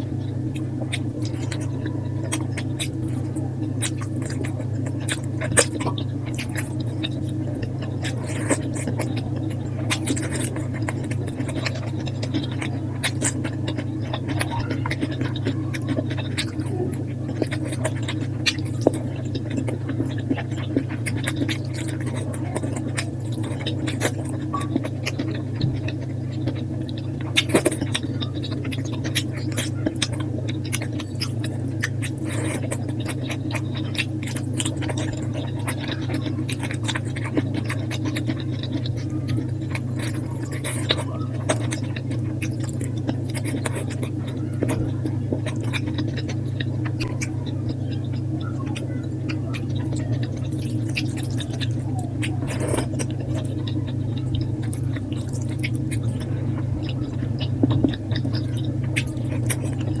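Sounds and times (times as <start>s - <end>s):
person chewing and smacking: 0.0s - 60.0s
steady low hum: 0.0s - 60.0s.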